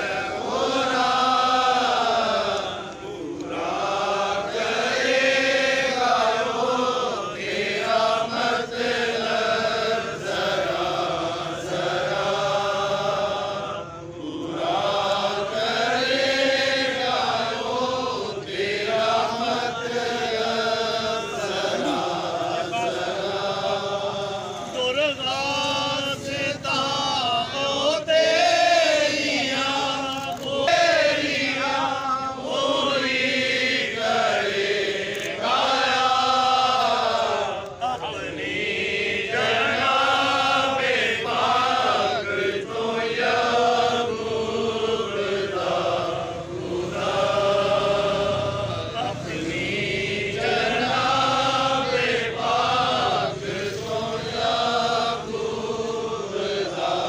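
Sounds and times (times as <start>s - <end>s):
crowd chanting in unison: 0.0s - 57.0s.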